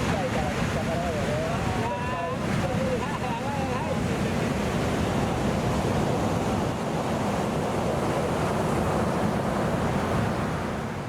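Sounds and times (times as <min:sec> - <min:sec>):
waves breaking: 0:00.0 - 0:11.0.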